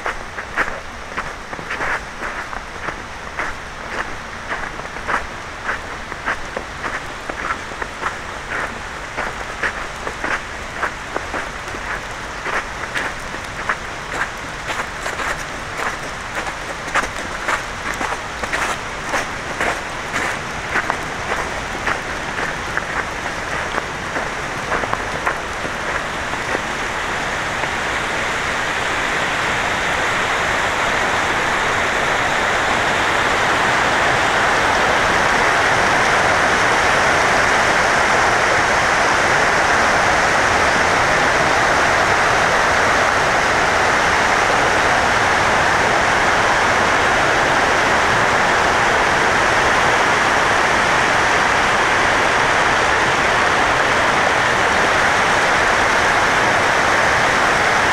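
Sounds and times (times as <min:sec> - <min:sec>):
rushing water hiss: 0:00.0 - 0:57.9.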